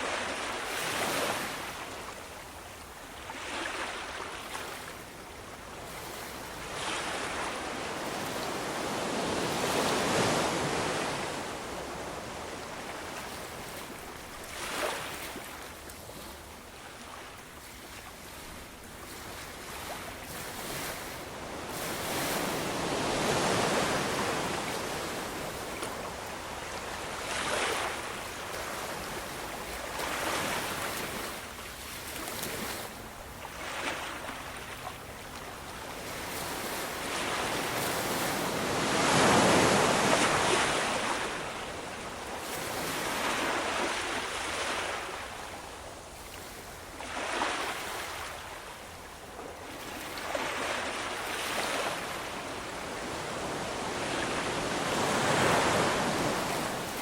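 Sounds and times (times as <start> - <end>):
ocean waves breaking: 5.8 - 16.3, 16.9 - 45.5, 46.2 - 48.6, 49.6 - 57.0.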